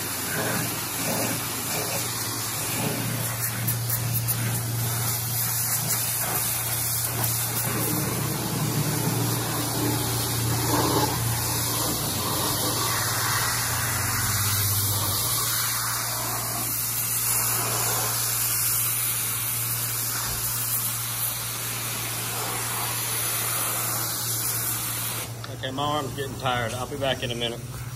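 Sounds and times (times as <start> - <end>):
pressure washer spraying: 0.0 - 27.9.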